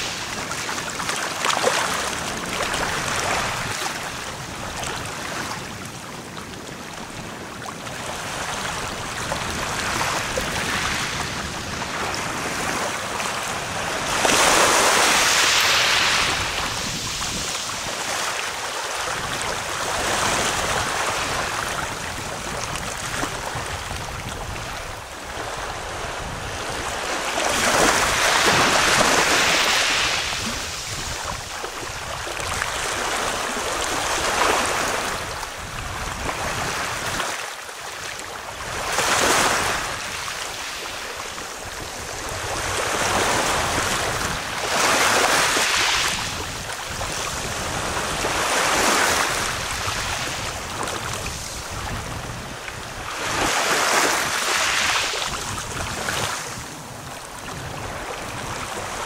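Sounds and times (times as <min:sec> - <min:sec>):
waves washing over pebbly shore: 0:00.0 - 0:05.8, 0:07.8 - 0:59.0.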